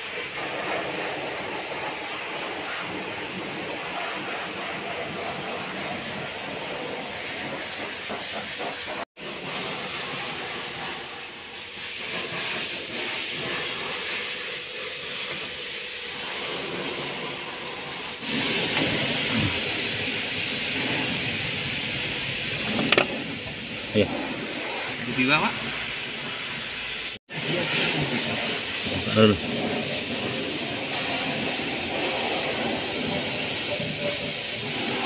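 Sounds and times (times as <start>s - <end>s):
steady hissing noise: 0.0s - 35.0s.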